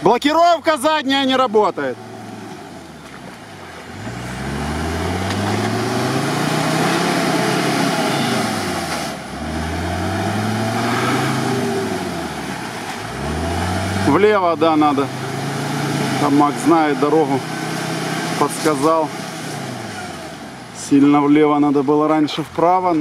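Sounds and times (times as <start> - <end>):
off-road engine revving hard: 0.7 - 21.3.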